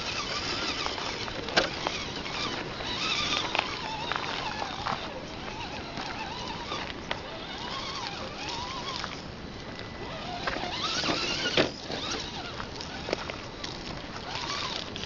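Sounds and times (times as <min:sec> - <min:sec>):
toy car electric motor whining: 0:00.0 - 0:09.3, 0:10.0 - 0:15.0.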